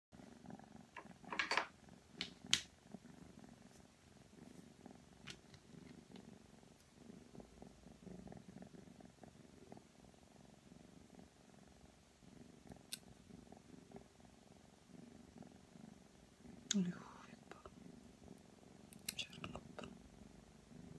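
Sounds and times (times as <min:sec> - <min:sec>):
kitten purring: 0:00.1 - 0:20.9.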